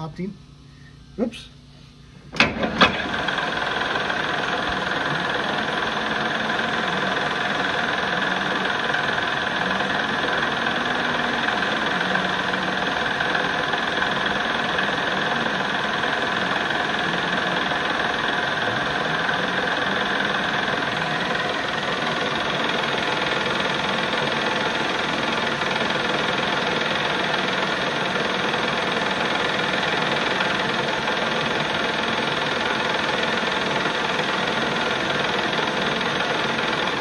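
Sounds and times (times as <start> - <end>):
metal lathe running: 2.3 - 37.0.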